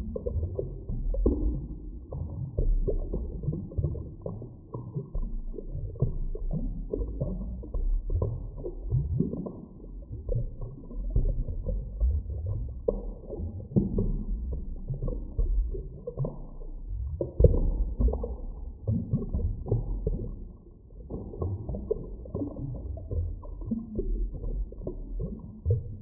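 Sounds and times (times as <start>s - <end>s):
low underwater rumble: 0.0s - 26.0s
underwater bubbling and gurgling: 0.0s - 26.0s.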